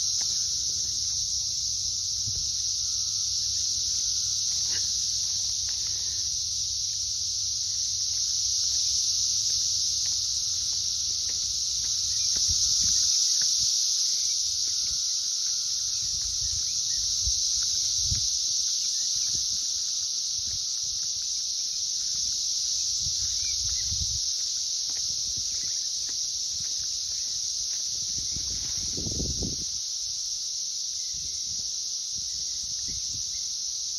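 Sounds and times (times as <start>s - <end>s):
cicada chorus: 0.0s - 33.9s.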